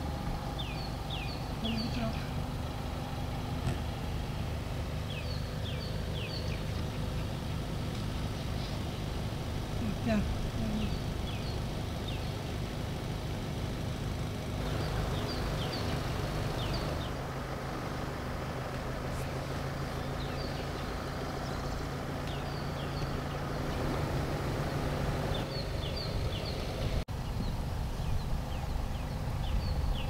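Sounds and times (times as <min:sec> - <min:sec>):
small birds chirping: 0:00.0 - 0:30.0
vehicle engine idling: 0:00.0 - 0:30.0.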